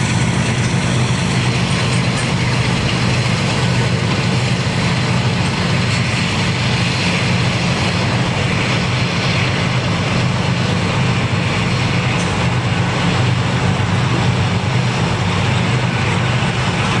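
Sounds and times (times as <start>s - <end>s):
diesel locomotive engines droning: 0.0s - 17.0s
wheels rolling on rail: 0.0s - 17.0s.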